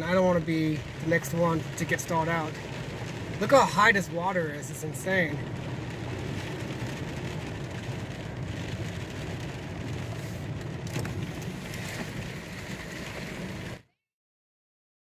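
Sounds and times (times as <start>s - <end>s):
car driving through floodwater: 0.0s - 13.9s
rain on windshield: 0.0s - 13.9s
low rumble: 0.8s - 13.8s.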